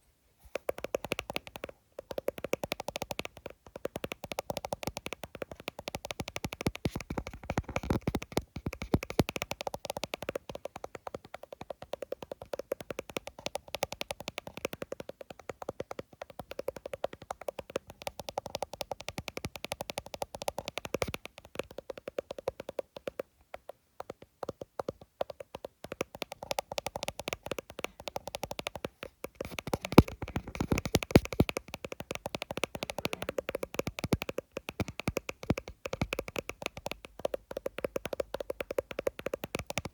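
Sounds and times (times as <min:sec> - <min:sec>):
fast tapping on a phone screen: 0:00.5 - 0:39.9.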